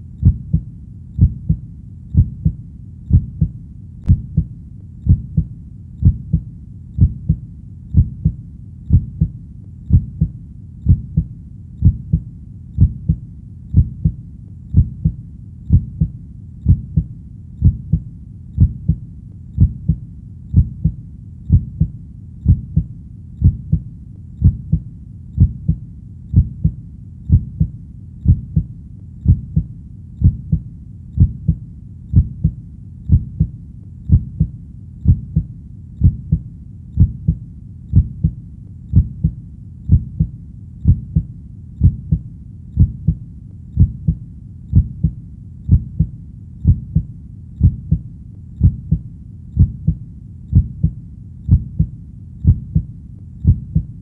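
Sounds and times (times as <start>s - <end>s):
faint low hum: 0.0s - 54.0s
heartbeat double thumps: 0.0s - 54.0s.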